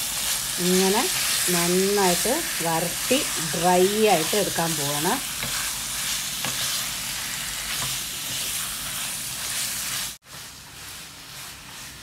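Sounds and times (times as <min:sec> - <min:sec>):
food sizzling in oil: 0:00.0 - 0:12.0
wooden spatula scraping pan: 0:02.1 - 0:12.0.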